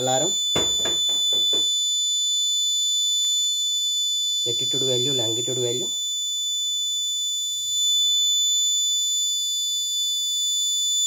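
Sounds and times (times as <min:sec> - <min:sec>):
high-pitched buzzer alarm tone: 0:00.0 - 0:11.0.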